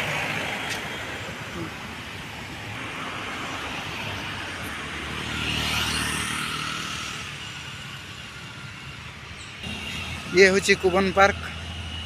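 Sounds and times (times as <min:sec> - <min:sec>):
passing vehicle engine and tyres: 0:00.0 - 0:12.0.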